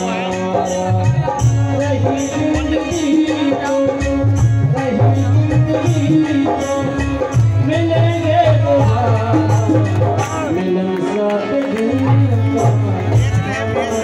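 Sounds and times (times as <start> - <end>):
devotional music over loudspeaker: 0.0 - 14.0
person singing: 0.0 - 14.0
rattling hand percussion: 0.0 - 14.0.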